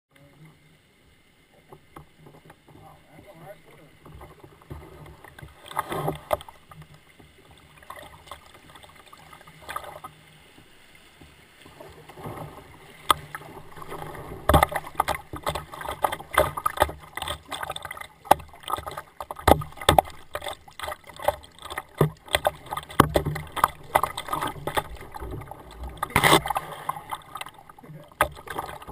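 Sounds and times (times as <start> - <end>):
water slapping plastic hull: 1.6 - 10.2, 11.2 - 28.9
kayak paddle strokes splashing: 1.6 - 28.9.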